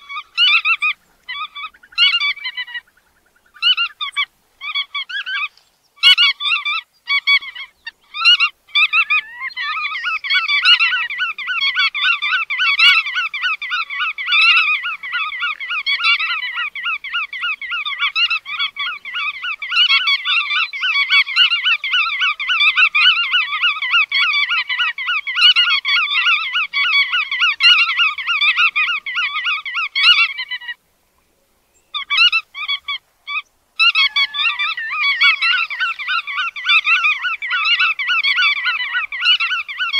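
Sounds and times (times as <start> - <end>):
godwit chattering calls: 0.0 - 30.8, 31.9 - 39.9.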